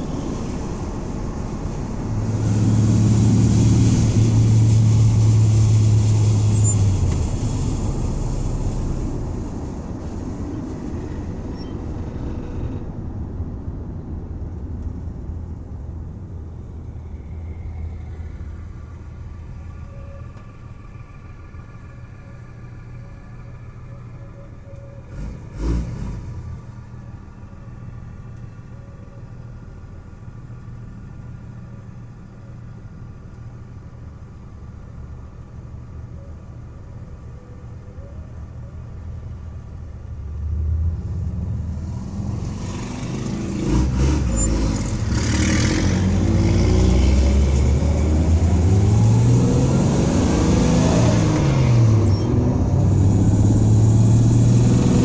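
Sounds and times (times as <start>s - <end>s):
road and wind noise: 0.0s - 55.0s
van engine accelerating: 0.0s - 55.0s.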